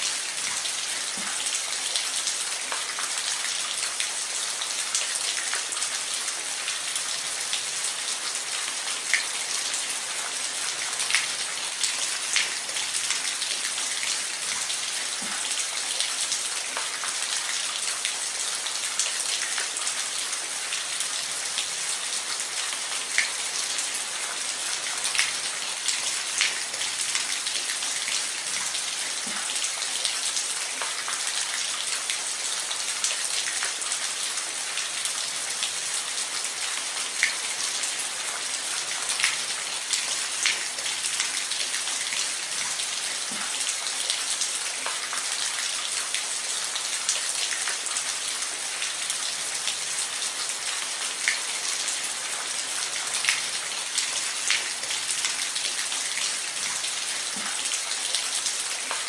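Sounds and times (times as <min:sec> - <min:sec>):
individual raindrops: 0:00.0 - 0:59.0
rain falling on a roof: 0:00.0 - 0:59.0.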